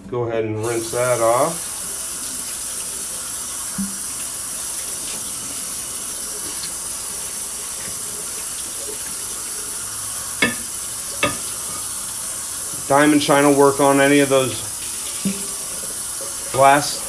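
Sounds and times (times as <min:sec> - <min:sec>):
faucet water splashing on plate: 0:00.6 - 0:17.0.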